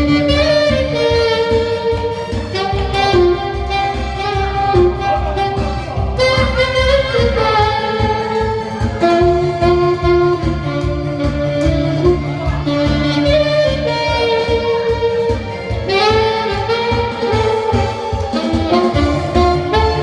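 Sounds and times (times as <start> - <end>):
accompaniment with low beat: 0.0 - 20.0
saxophone melody: 0.0 - 20.0.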